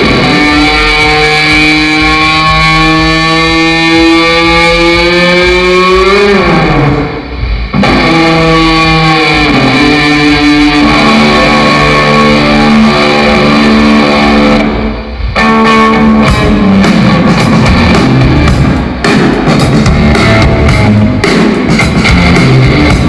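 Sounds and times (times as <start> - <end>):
drums hitting: 0.0 - 23.0
rock band playing live: 0.0 - 23.0.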